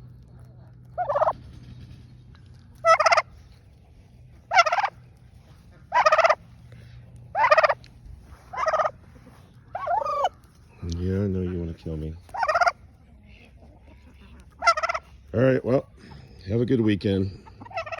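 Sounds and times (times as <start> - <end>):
turkey gobbling: 0.0 - 1.6, 2.7 - 16.4, 17.3 - 17.9.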